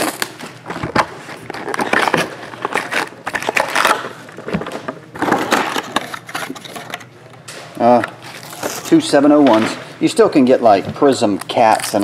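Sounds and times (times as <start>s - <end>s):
card packs rustling and crinkling: 0.0s - 7.1s, 7.8s - 12.0s.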